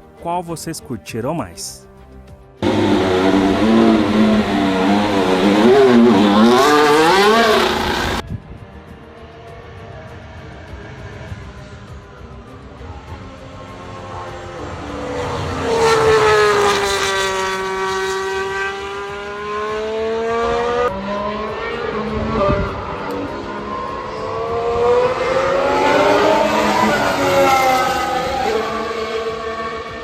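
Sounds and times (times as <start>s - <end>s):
racing car engine slowing and accelerating: 2.6s - 8.2s, 9.3s - 30.0s.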